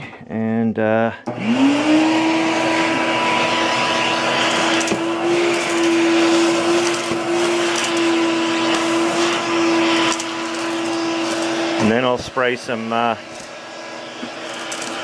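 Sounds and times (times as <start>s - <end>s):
shop vacuum running: 1.2s - 15.0s.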